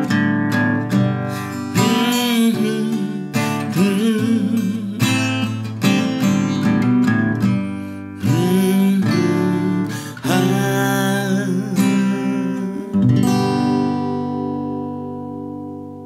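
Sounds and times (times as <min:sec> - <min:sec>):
acoustic guitar strummed: 0:00.0 - 0:16.0.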